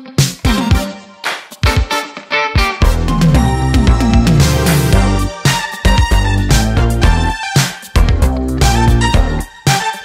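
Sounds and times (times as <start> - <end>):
upbeat funk music: 0.0 - 10.0.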